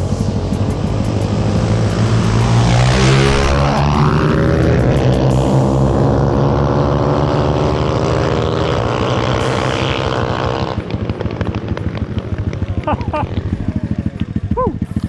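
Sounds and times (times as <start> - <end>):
motorcycle engine revving high: 0.0 - 15.0.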